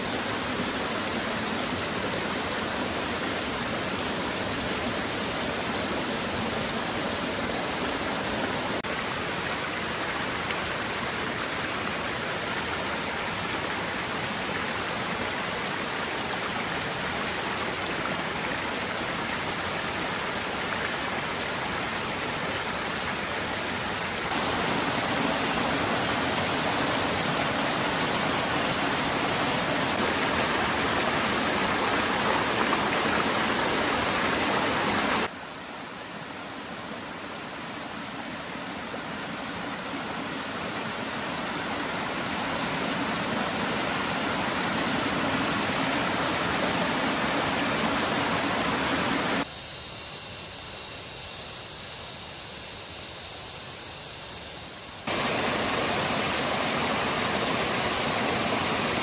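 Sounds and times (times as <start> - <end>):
stream and waterfall rushing: 0.0 - 49.5, 55.0 - 59.0.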